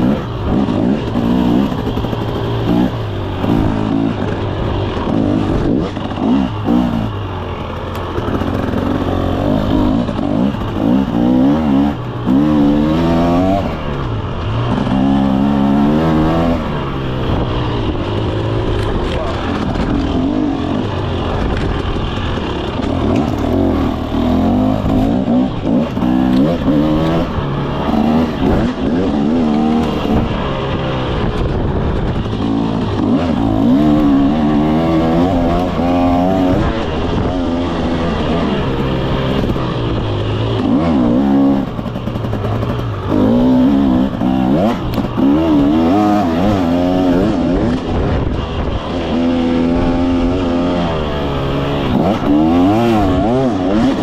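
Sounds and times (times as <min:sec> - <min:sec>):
two-stroke dirt bike engine revving: 0:00.0 - 0:54.0.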